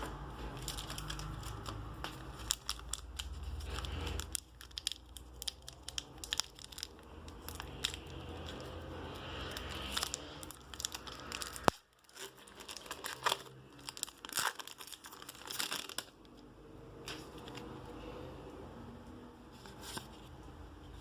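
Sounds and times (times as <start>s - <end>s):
packaging crinkling and tearing: 0.4s - 17.8s.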